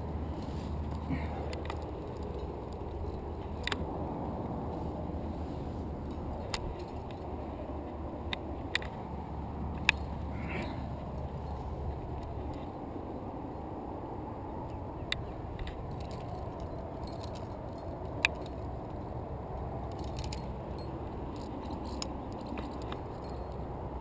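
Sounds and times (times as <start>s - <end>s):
climbing gear clinking on rock: 0.0s - 13.0s, 15.1s - 24.0s
steady low rumble: 0.0s - 24.0s
metallic clicks: 0.3s - 12.8s, 14.7s - 23.7s.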